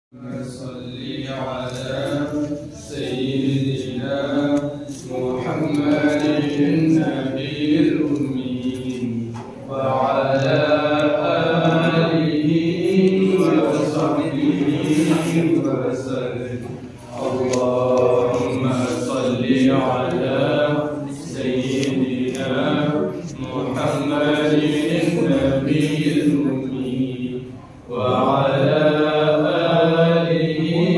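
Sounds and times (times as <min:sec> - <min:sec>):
men chanting melodically: 0:00.2 - 0:30.9.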